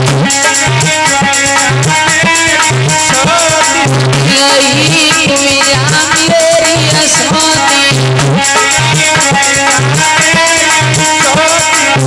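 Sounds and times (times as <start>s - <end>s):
jingling percussion: 0.0s - 12.0s
steady drum beat: 0.0s - 12.0s.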